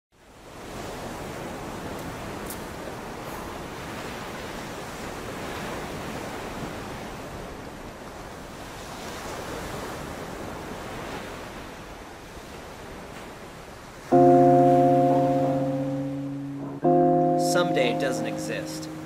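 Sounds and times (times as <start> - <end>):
ocean surf washing on beach: 0.2 - 19.0.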